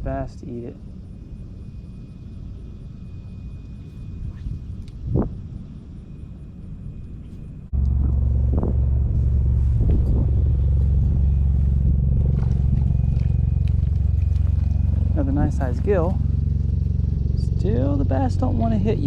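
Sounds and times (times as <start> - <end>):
loud low motor rumble: 0.0 - 19.0
outdoor background noise: 0.0 - 19.0.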